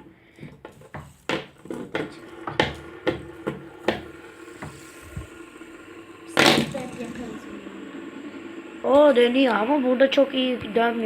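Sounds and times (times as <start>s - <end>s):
faint steady hum: 1.9s - 11.0s.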